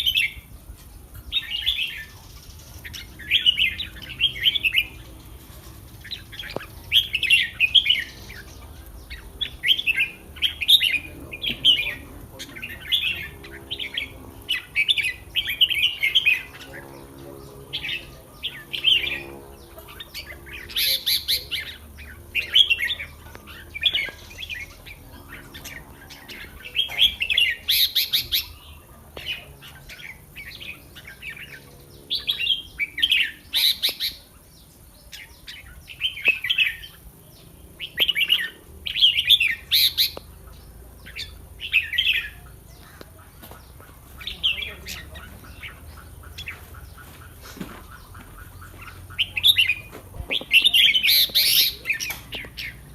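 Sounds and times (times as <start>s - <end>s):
birds singing warbled phrases: 0.0s - 52.9s.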